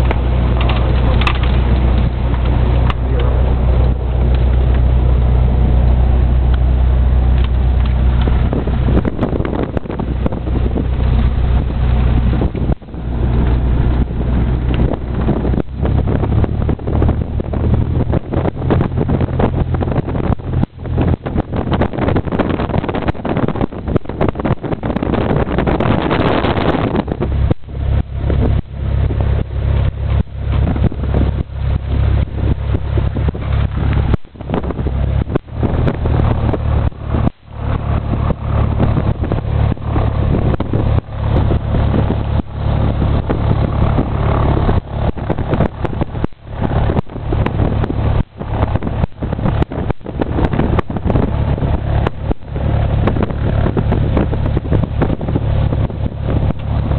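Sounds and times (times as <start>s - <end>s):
light airplane engine and propeller: 0.0s - 56.9s
wind noise: 0.0s - 56.9s.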